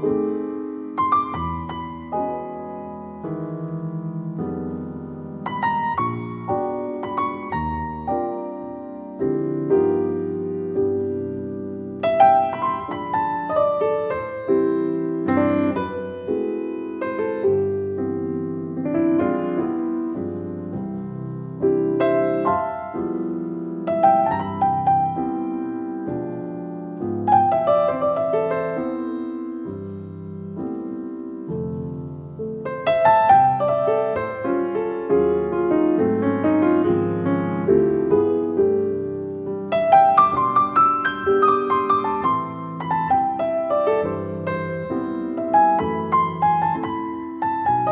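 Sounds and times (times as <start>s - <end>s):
slow gentle piano music: 0.0s - 47.9s.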